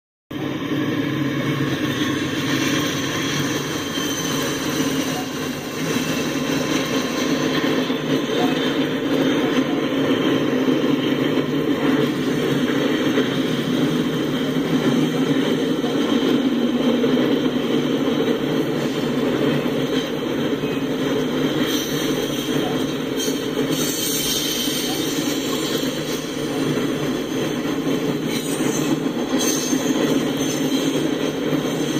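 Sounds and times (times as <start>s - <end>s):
freight train rumbling over bridge: 0.3s - 31.9s.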